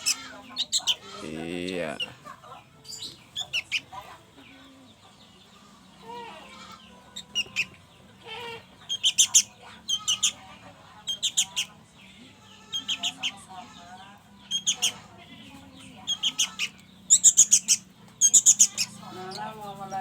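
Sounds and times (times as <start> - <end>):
young birds begging chirps: 0.0 - 20.0.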